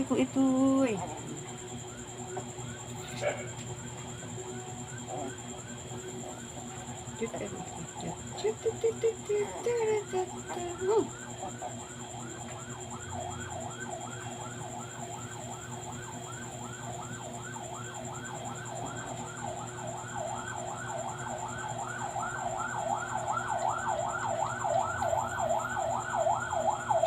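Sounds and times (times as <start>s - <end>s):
siren yelping: 0.0s - 27.0s.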